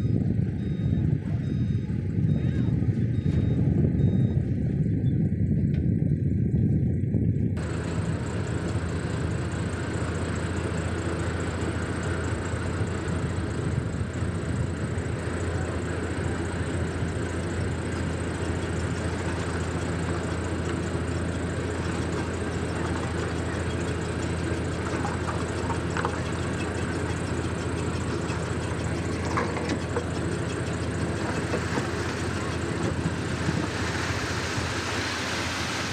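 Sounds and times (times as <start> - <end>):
heavy machinery diesel engine running: 0.0 - 35.9.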